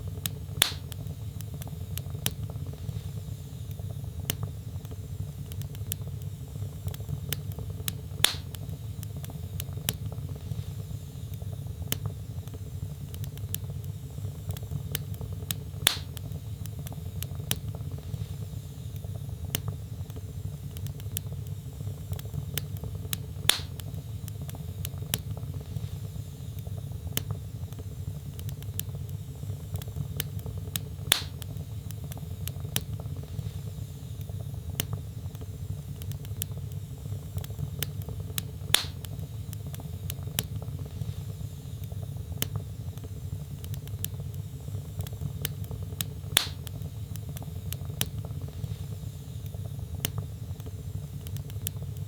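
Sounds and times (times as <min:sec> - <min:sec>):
loud fire pops: 0:00.0 - 0:03.3, 0:04.1 - 0:10.9, 0:11.8 - 0:26.0, 0:28.2 - 0:52.0
log fire crackling: 0:00.0 - 0:52.0.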